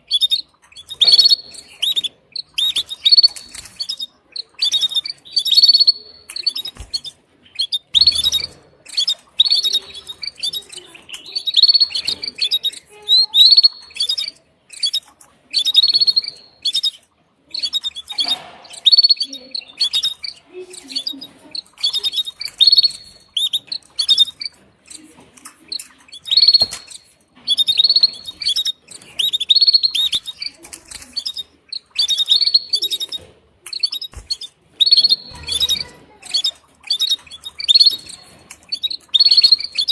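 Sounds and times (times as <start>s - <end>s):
canary chirping: 0.0s - 39.9s.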